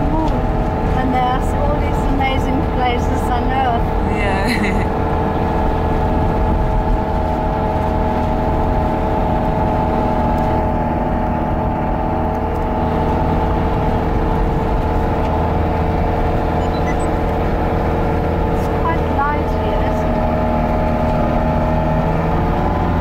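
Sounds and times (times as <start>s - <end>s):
road noise on wet road: 0.0s - 23.0s
vehicle engine rumble: 0.0s - 23.0s.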